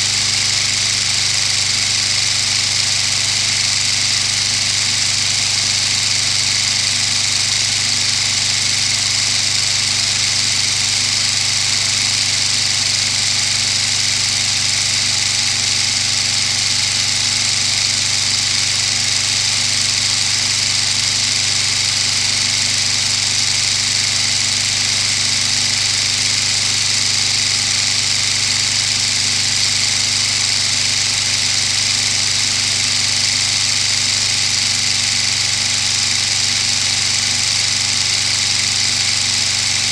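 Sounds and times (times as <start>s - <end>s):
two-stroke diesel engine running: 0.0s - 39.9s.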